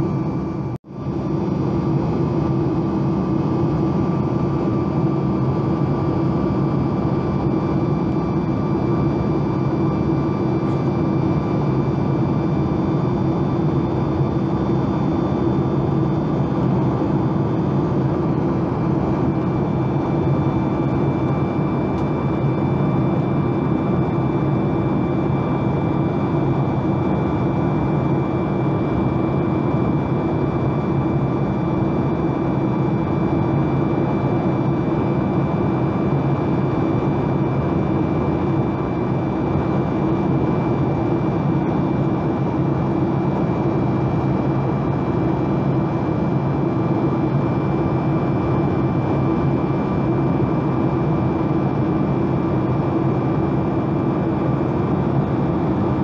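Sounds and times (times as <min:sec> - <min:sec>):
airplane cabin engine hum: 0:00.0 - 0:56.0.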